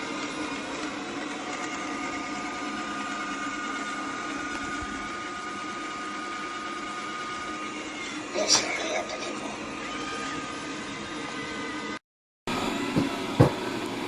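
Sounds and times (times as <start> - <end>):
robot vacuum cleaner running: 0.0 - 14.0.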